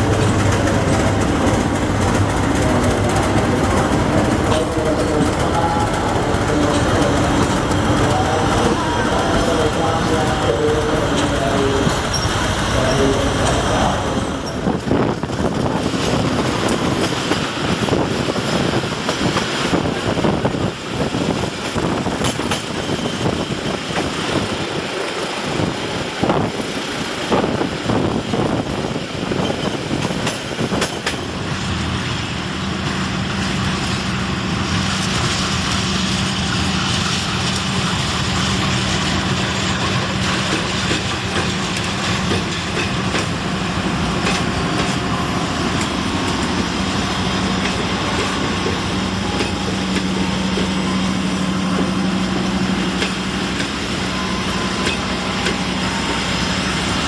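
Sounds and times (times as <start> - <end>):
train wheels clattering over rail joints: 0.0 - 13.8, 14.4 - 31.6, 34.9 - 50.9, 52.6 - 54.0
diesel locomotive engine drone: 0.0 - 57.0.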